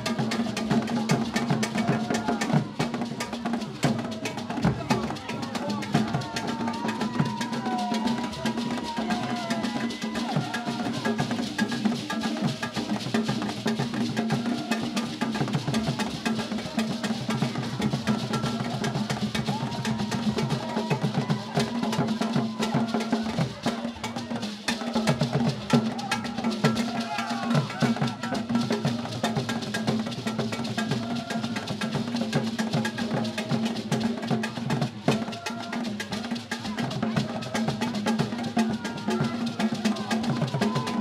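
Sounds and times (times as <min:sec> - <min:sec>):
drum ensemble playing fast rhythm: 0:00.0 - 0:41.0.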